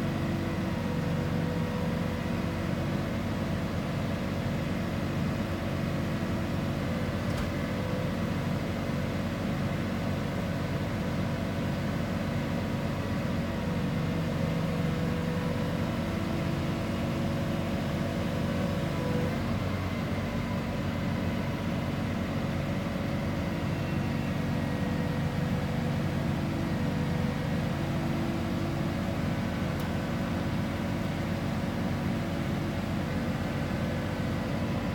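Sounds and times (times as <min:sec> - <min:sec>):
heavy machinery engine droning: 0:00.0 - 0:34.9.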